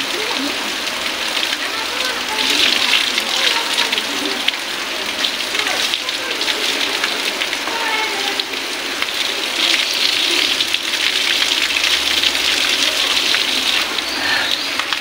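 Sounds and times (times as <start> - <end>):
fountain water splashing on stone: 0.0 - 15.0.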